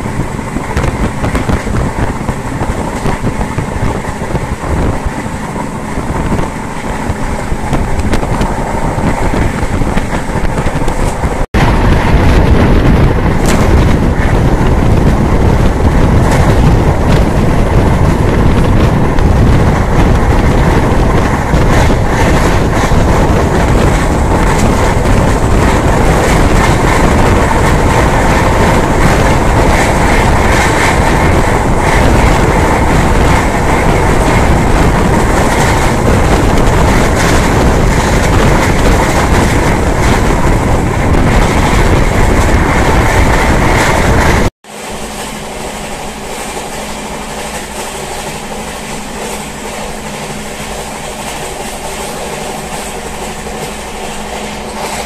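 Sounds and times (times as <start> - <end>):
rail clatter: 0.0 - 55.0
train rumble and rushing air: 0.0 - 55.0.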